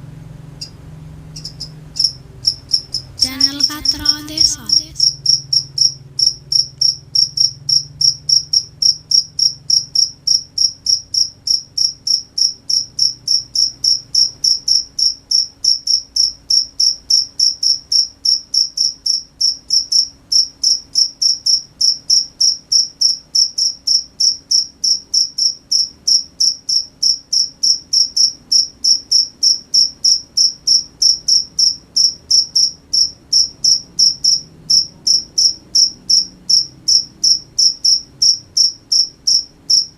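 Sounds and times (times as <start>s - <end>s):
cricket chirping: 1.4s - 39.9s.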